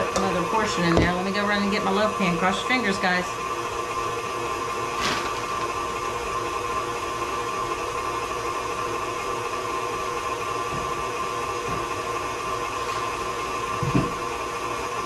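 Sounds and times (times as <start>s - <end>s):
stand mixer motor whirring: 0.0s - 15.0s.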